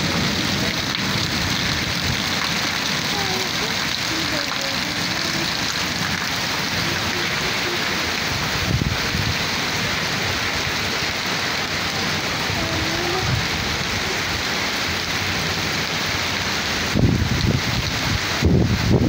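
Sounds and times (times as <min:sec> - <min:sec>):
rain pattering on concrete: 0:00.0 - 0:19.0.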